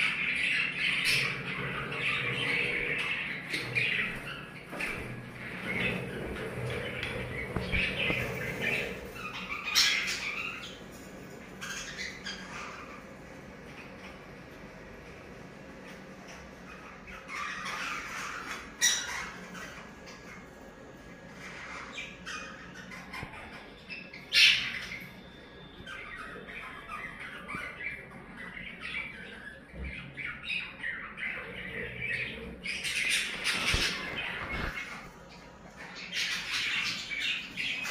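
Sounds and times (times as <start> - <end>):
budgerigars chirping and squawking: 0.0 - 37.9.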